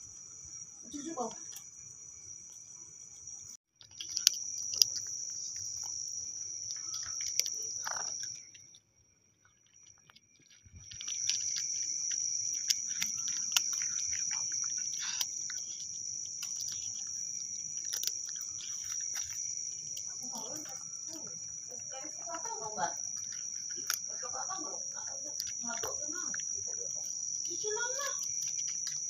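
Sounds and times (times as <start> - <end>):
night insects trilling: 0.0 - 29.0
cat crunching dry kibble: 3.8 - 29.0.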